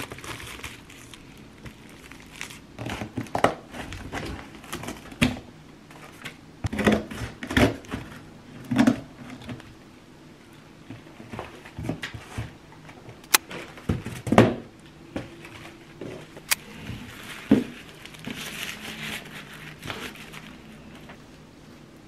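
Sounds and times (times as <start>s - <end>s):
packages rustling and sliding: 0.0s - 9.8s, 10.8s - 14.4s, 15.0s - 21.4s.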